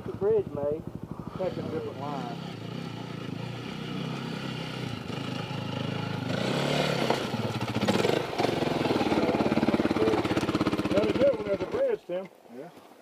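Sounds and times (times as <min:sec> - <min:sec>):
dirt bike engine revving: 0:00.0 - 0:11.8.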